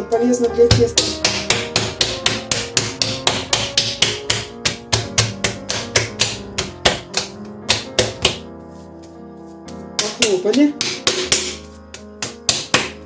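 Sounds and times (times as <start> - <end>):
background music: 0.0 - 13.0
hands slapping dough: 0.7 - 8.5, 9.7 - 13.0.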